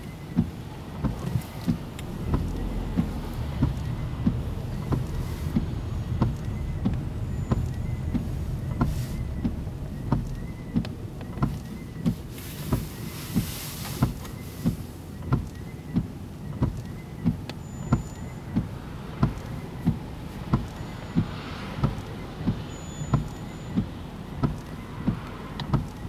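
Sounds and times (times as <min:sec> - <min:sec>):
faint wiper whine: 0:00.0 - 0:26.0
rain: 0:00.0 - 0:26.0
windshield wipers thumping: 0:00.0 - 0:26.0.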